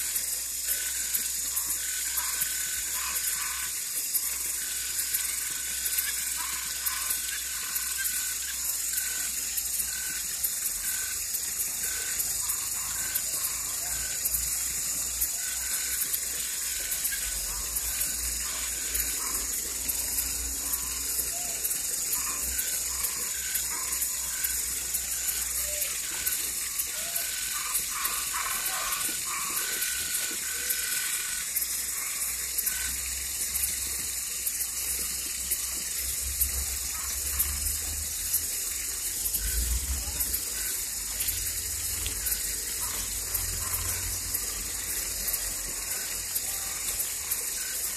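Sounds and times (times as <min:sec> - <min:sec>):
frogs trilling: 0:00.0 - 0:47.9
short frog calls: 0:00.0 - 0:47.9.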